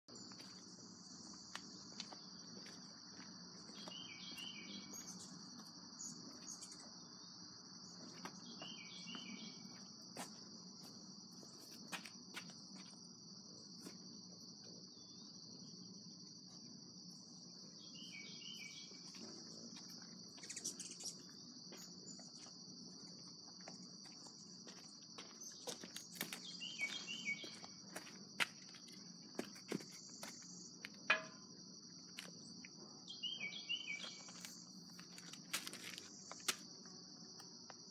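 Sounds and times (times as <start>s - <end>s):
insects chorus: 0.1s - 37.9s.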